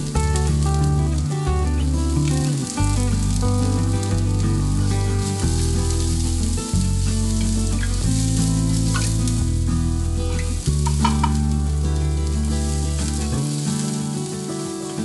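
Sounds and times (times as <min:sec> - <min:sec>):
food sizzling in a pan: 0:00.0 - 0:15.0
low sustained music tones: 0:00.0 - 0:15.0.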